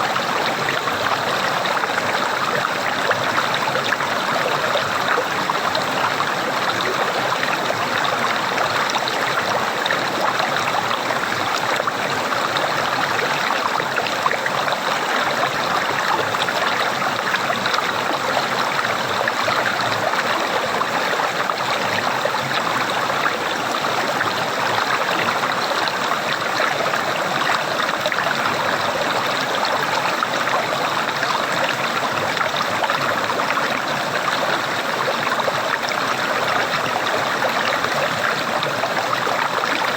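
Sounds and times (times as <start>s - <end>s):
water flowing and gurgling: 0.0s - 39.9s.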